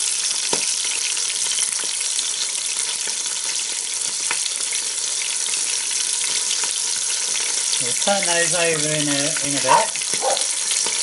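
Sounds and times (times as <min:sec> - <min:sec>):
meat sizzling in hot fat: 0:00.0 - 0:11.0.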